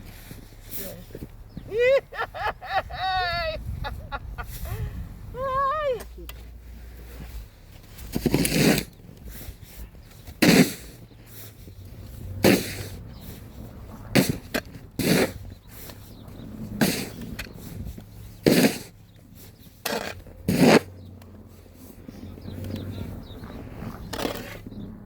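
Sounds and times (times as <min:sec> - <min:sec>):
snow shovels scraping snow: 0:00.0 - 0:02.8, 0:05.4 - 0:24.9.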